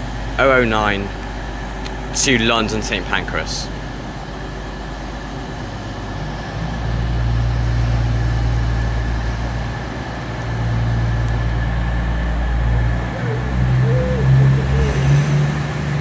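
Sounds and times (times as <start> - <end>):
train diesel engines humming: 0.0 - 16.0.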